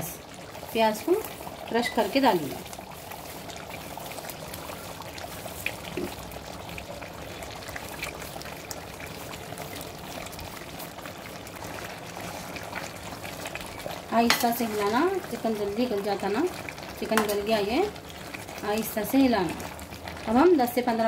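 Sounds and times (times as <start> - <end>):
fried onions crackling: 0.0 - 21.0
gravy bubbling in a pot: 0.0 - 21.0.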